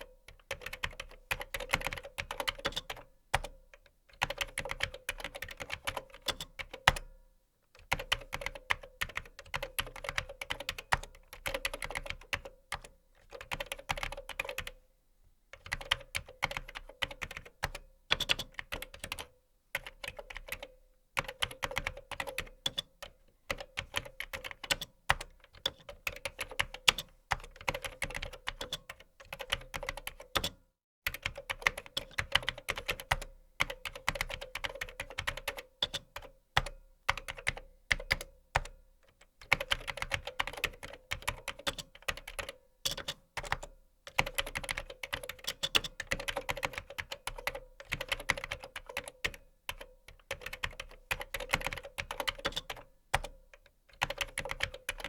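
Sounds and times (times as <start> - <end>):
computer keyboard typing: 0.3 - 3.6, 4.2 - 7.1, 7.8 - 14.8, 15.6 - 55.0.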